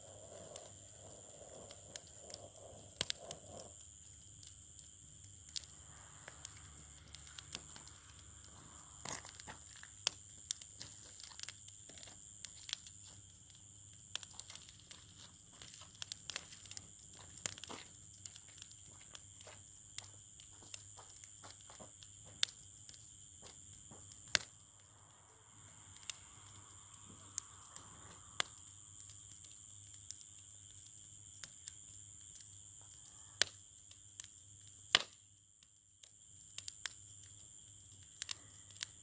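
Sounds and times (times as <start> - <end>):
burning wood popping and snapping: 0.0 - 24.6, 26.8 - 35.2, 36.0 - 39.0
campfire crackling: 0.0 - 39.0
faint steady hiss: 0.0 - 39.0.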